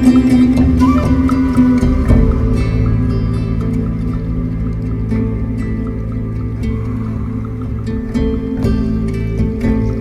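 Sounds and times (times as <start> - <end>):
calm new-age music: 0.0 - 10.0.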